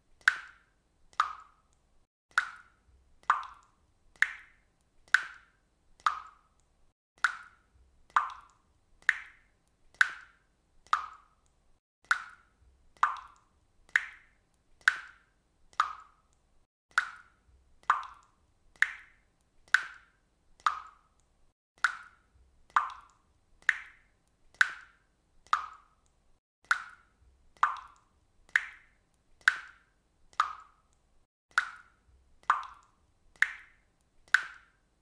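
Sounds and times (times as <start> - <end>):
water dripping from faucet: 0.0 - 35.0.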